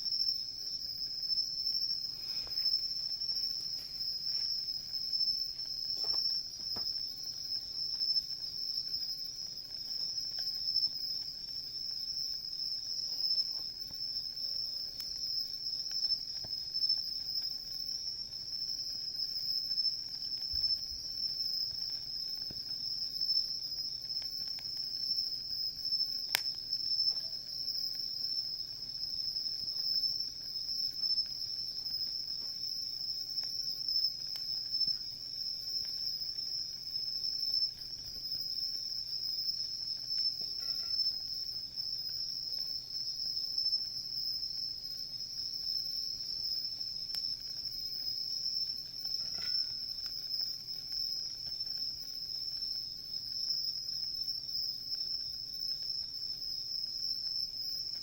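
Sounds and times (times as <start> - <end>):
insects trilling: 0.0 - 58.0
campfire pop: 0.1 - 58.0.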